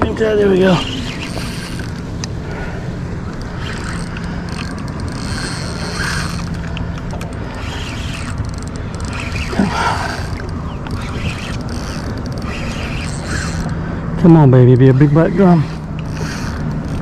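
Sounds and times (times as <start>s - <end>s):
water noise: 0.0s - 17.0s.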